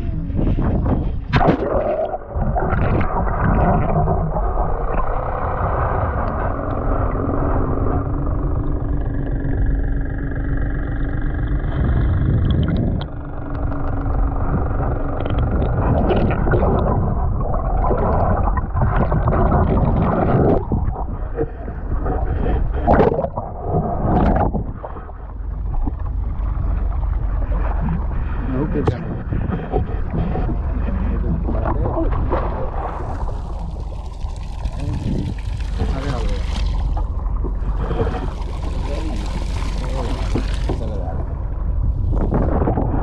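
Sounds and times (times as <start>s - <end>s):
steady low drone: 0.0s - 43.0s
underwater rushing and gurgling: 0.0s - 43.0s.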